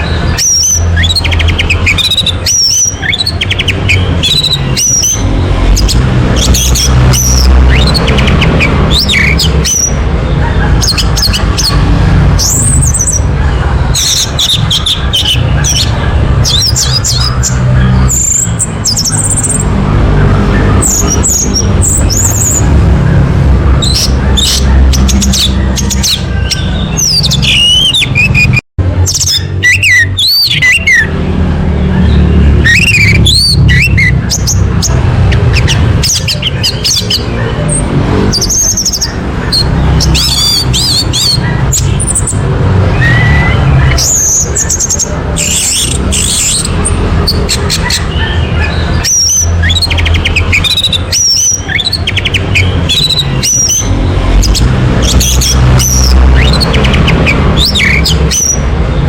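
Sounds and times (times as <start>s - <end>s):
thrush singing: 0.0s - 59.0s.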